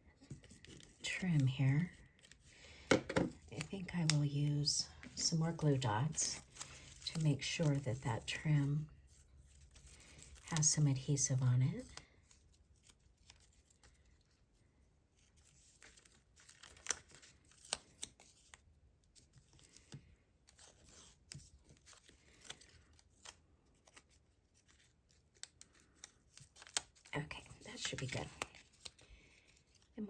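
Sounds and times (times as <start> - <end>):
paper rustling and clicking: 0.2 - 4.3, 4.9 - 8.4, 9.1 - 11.0, 15.2 - 30.0.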